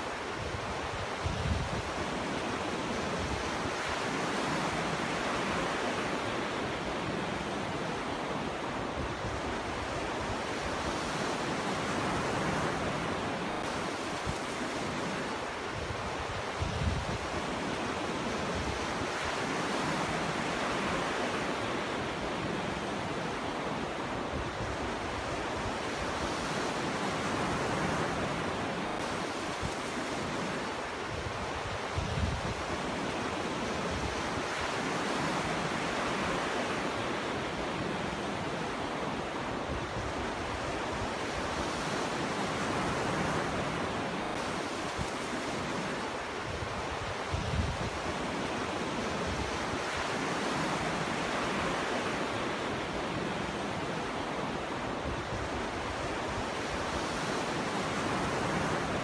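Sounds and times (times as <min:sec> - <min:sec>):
waves breaking on beach: 0:00.0 - 0:59.0.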